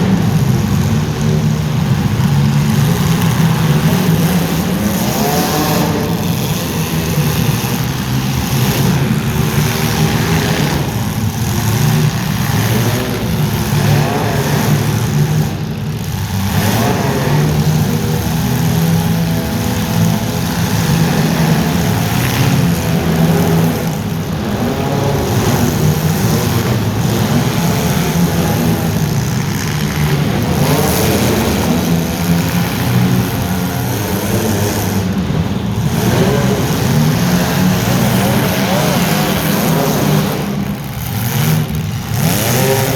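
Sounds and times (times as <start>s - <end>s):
racing engines revving: 0.0s - 42.9s.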